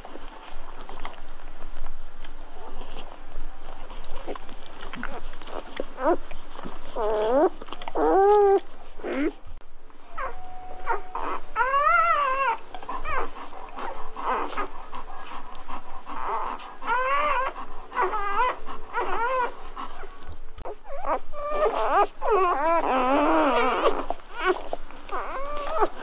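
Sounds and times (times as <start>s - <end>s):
puppies whimpering: 3.7s - 9.4s, 10.1s - 26.0s.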